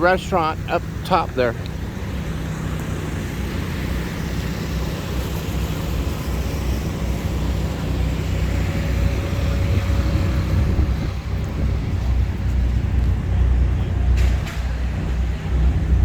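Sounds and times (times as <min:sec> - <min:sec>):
low rumble of street traffic: 0:00.0 - 0:16.0.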